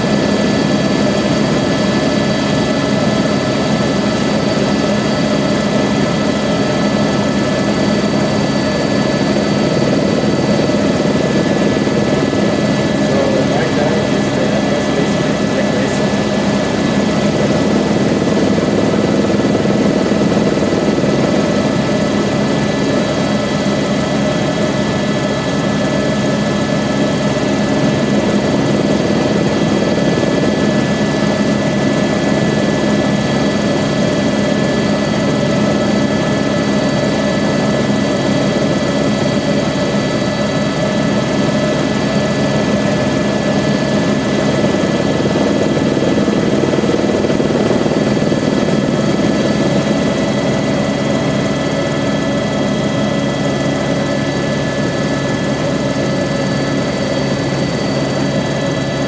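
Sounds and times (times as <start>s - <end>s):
helicopter rotor and engine drone: 0.0s - 59.0s.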